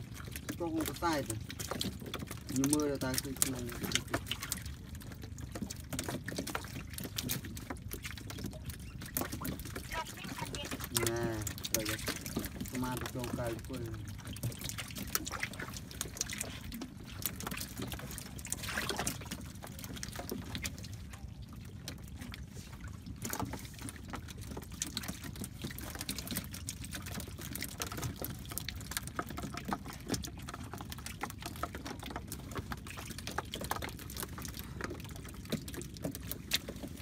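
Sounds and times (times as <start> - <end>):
fish flapping and splashing: 0.0 - 37.0
water trickling and sloshing: 0.0 - 37.0.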